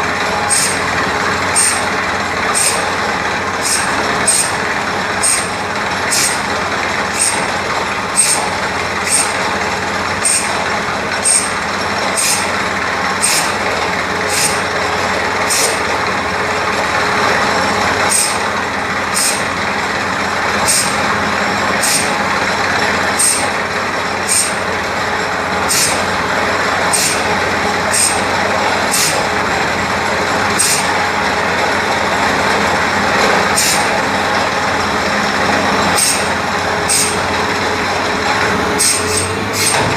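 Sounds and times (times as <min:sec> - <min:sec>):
drilling rig drone: 0:00.0 - 0:39.9.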